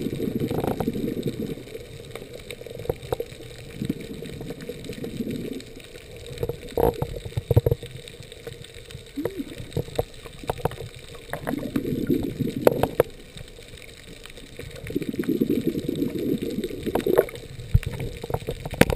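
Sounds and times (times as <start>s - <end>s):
diver's exhaled bubbles gurgling: 0.0s - 18.9s
faint clicks: 0.1s - 18.9s.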